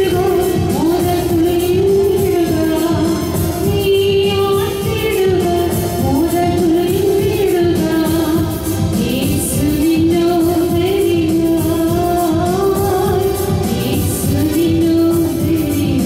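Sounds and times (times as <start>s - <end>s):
electronic keyboard accompaniment: 0.0s - 16.0s
woman singing gospel: 0.0s - 16.0s.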